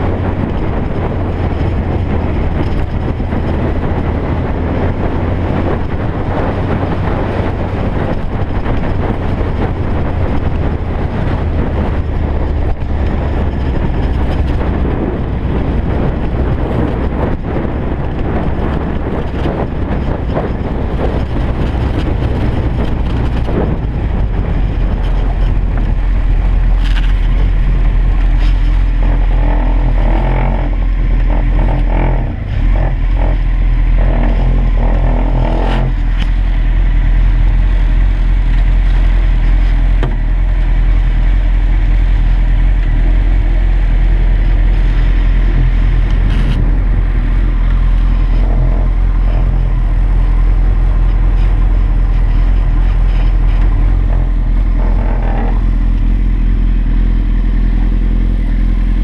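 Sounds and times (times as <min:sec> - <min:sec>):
gravel crunching under tyres: 0:00.0 - 0:59.0
motorcycle engine at low revs: 0:00.0 - 0:59.0.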